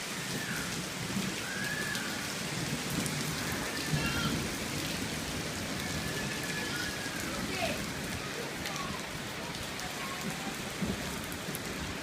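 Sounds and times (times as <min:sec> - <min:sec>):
steady rain pattering: 0:00.0 - 0:12.0.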